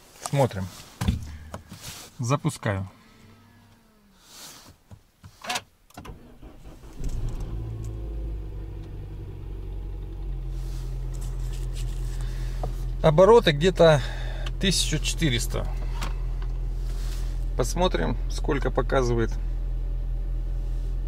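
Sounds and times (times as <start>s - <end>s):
car engine starting and idling: 2.6s - 4.7s, 5.9s - 21.0s.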